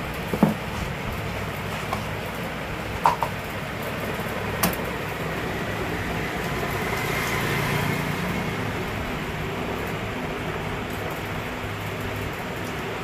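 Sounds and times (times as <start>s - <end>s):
mechanical hum and whir: 0.0s - 13.0s.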